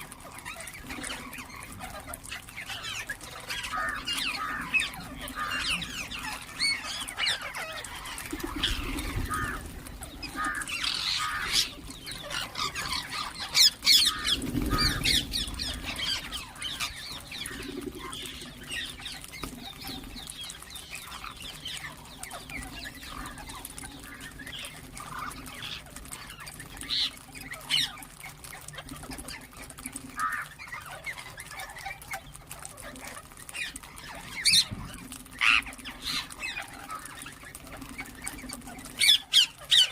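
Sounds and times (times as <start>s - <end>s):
parakeets chirping and squawking: 0.0s - 39.9s.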